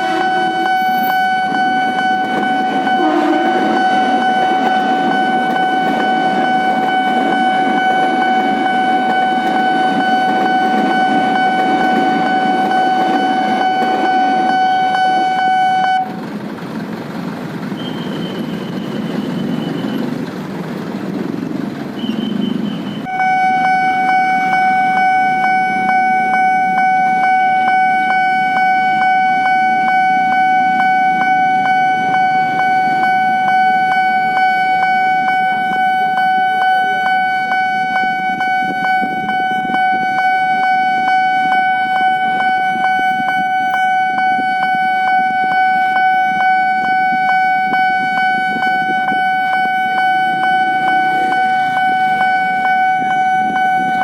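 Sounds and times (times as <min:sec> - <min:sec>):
pulsing level-crossing alarm: 0:00.0 - 0:16.2, 0:17.7 - 0:20.3, 0:21.2 - 0:54.0
low traffic rumble: 0:00.0 - 0:54.0.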